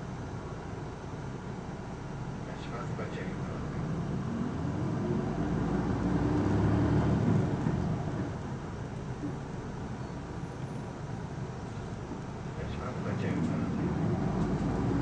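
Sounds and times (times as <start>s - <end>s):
bus diesel engine: 0.0s - 15.0s
road noise: 0.0s - 15.0s.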